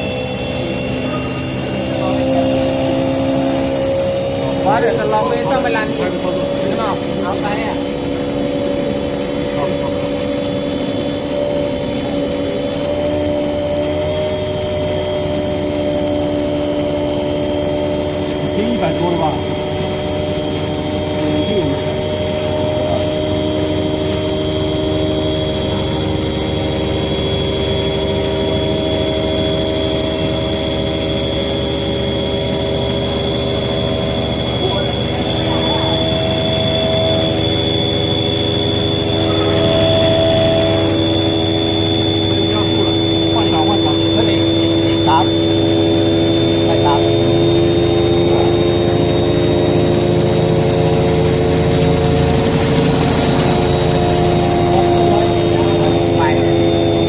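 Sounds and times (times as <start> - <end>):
electric motor whine: 0.0 - 57.0
spinning roller rumble: 0.0 - 57.0.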